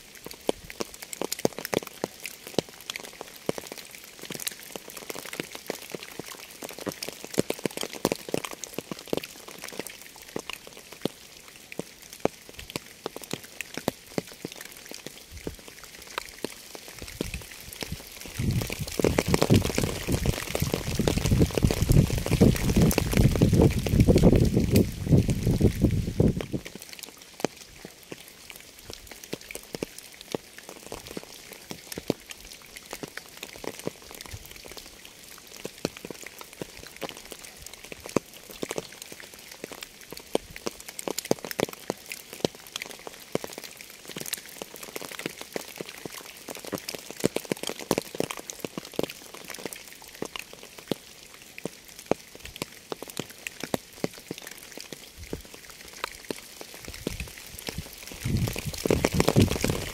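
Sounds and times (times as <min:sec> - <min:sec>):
rain falling: 0:00.0 - 0:59.9
raindrops striking a surface: 0:00.0 - 0:59.9.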